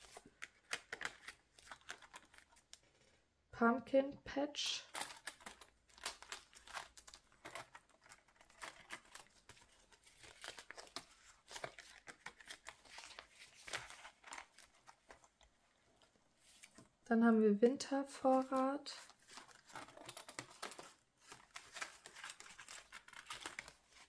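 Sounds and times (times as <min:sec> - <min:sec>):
plastic sleeves crinkling: 0:00.0 - 0:02.9, 0:04.8 - 0:16.9, 0:18.2 - 0:24.0.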